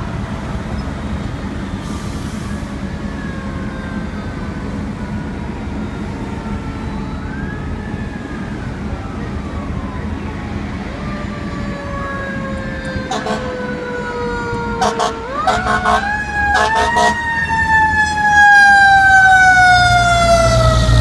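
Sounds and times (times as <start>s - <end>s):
street traffic rumble: 0.0s - 21.0s
fire engine siren wailing: 1.2s - 21.0s.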